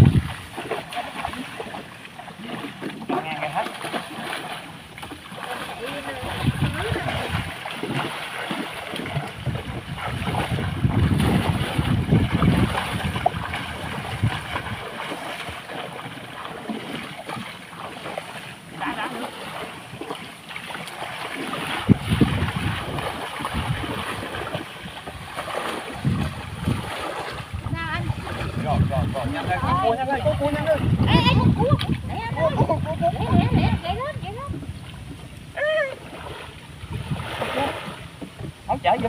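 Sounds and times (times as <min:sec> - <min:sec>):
people wading through water: 0:00.0 - 0:39.0.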